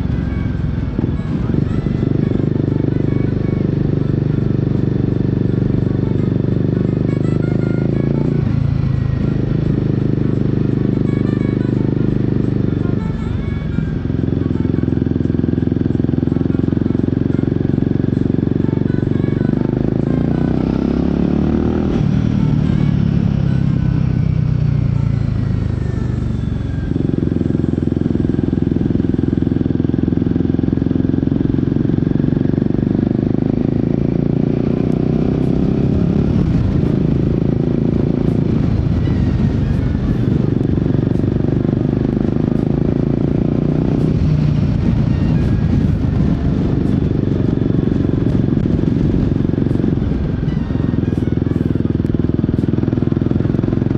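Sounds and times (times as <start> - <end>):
motorcycle engine and exhaust: 0.0 - 53.9.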